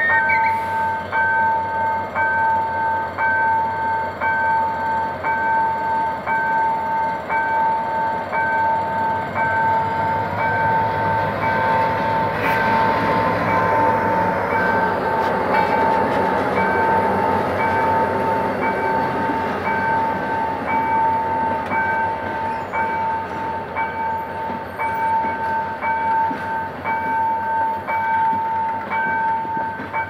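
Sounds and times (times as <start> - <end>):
diesel locomotive engine: 0.0 - 30.0
passenger train rolling: 0.0 - 30.0
two-tone crossing alarm: 0.0 - 30.0.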